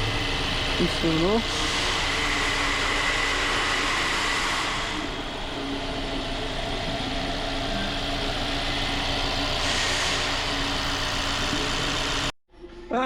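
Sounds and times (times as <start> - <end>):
car engine idling: 0.0 - 4.0, 4.7 - 12.3.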